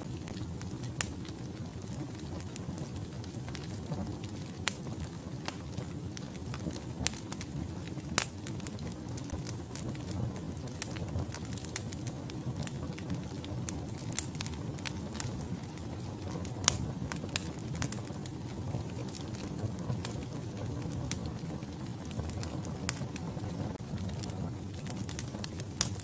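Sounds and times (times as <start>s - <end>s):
logs crackling and popping: 0.0s - 26.0s
low rumble of flames: 0.0s - 26.0s.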